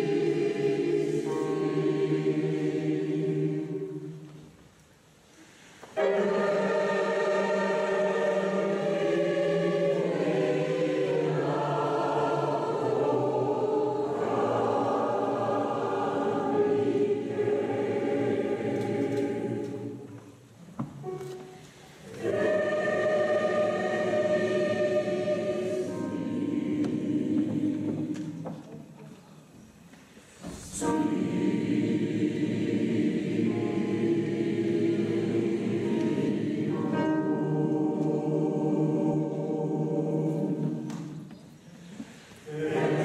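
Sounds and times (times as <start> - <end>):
mixed choir singing: 0.0 - 4.5, 5.9 - 20.4, 21.0 - 28.7, 30.3 - 43.0.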